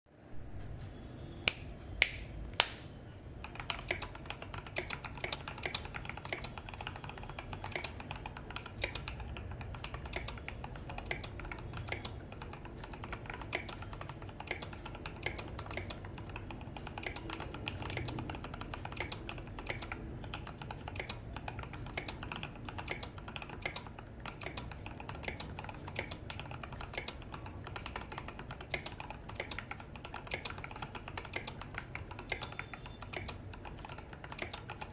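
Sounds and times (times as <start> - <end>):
mechanical keyboard typing: 3.4 - 34.9.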